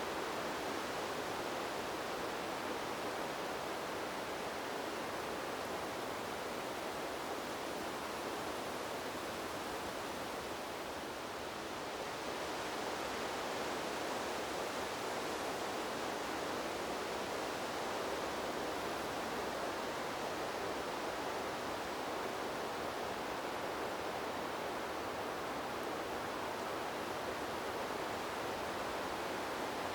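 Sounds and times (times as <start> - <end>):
wind through tree leaves: 0.0 - 29.9.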